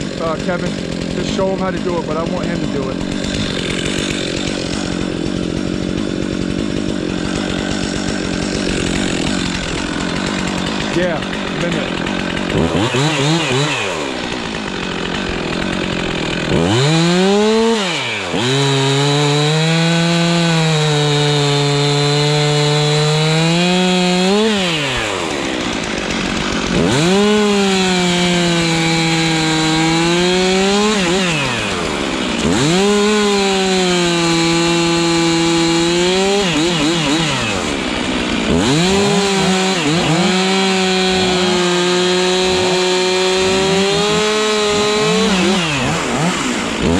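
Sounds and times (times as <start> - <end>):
chainsaw revving cutting wood: 0.0 - 46.9.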